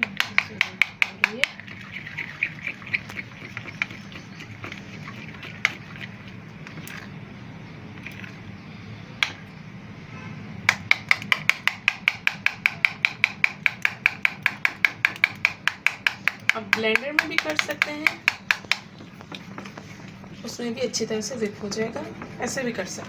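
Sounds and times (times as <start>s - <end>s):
utensil tapping bowl while whisking: 0.0s - 6.8s, 10.7s - 23.0s.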